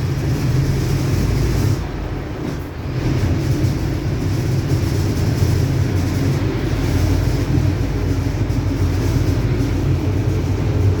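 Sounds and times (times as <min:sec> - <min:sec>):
diesel bus engine drone: 0:00.0 - 0:11.0.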